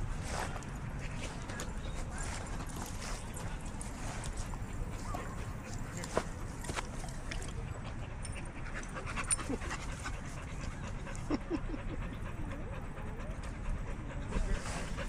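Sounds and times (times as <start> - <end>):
dog panting: 0.3 - 15.0.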